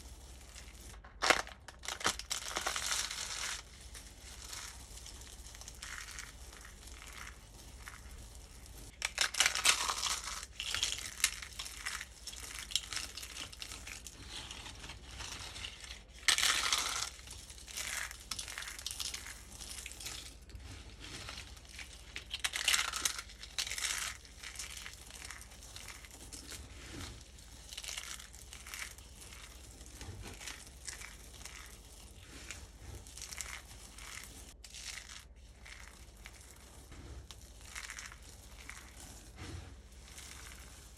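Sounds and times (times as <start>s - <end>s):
soap crunching and crumbling: 0.4s - 40.9s.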